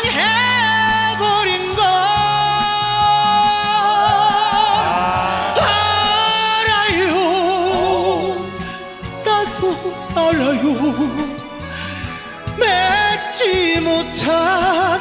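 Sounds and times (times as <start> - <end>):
man singing with vibrato: 0.0 - 8.6, 9.2 - 11.4, 12.6 - 15.0
band accompaniment: 0.0 - 15.0.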